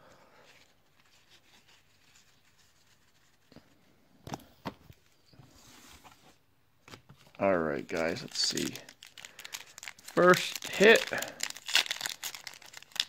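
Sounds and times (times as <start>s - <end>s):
soft rustle of cards: 0.1s - 13.0s.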